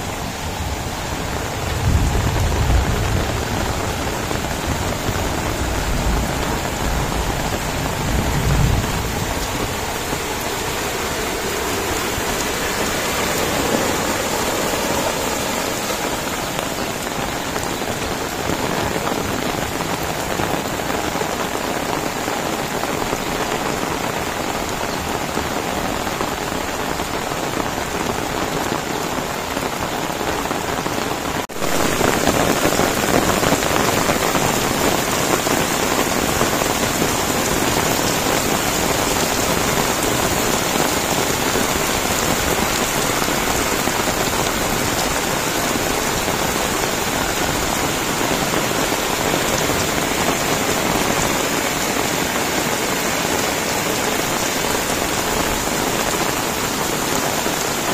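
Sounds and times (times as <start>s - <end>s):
heavy rain on road: 0.0s - 57.9s.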